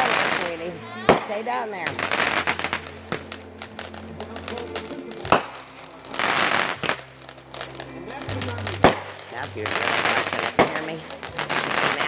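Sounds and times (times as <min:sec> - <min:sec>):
firework bang: 0:00.0 - 0:12.0
firework hiss: 0:00.0 - 0:12.0
fireworks crackling: 0:00.0 - 0:12.0
music playing: 0:00.0 - 0:12.0.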